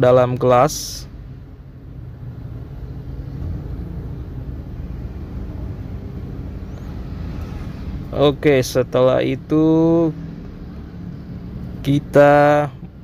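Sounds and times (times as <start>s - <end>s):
steady low rumble: 0.4s - 13.0s.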